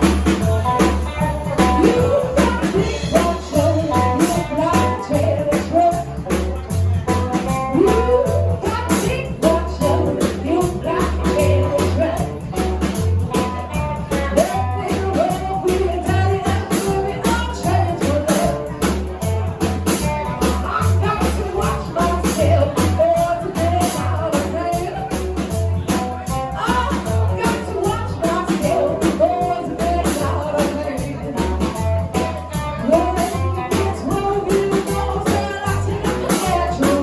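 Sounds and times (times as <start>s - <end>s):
bass line: 0.0s - 37.0s
person singing: 0.0s - 37.0s
rockabilly band playing: 0.0s - 37.0s
steady drum beat: 0.0s - 37.0s.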